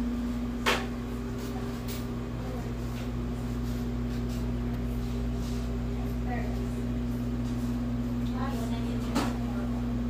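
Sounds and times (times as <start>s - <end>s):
mechanical hum of equipment: 0.0s - 10.0s.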